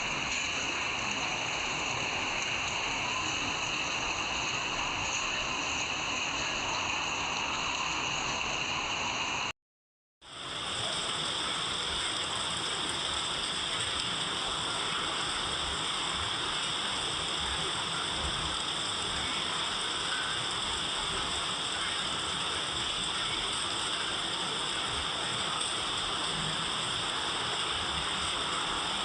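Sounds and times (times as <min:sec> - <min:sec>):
steady rain hiss: 0:00.0 - 0:09.5, 0:10.2 - 0:29.0.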